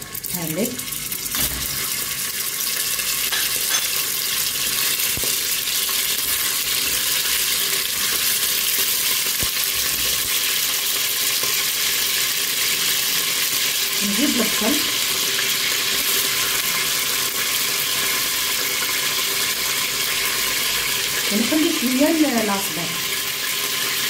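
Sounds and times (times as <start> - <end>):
beef sizzling in hot oil: 0.0 - 24.0.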